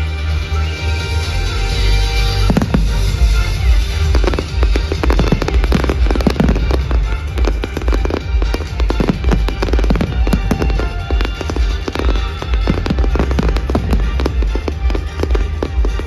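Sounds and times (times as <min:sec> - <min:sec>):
loud music with heavy bass: 0:00.0 - 0:16.0
fireworks bangs and crackles: 0:02.2 - 0:16.0.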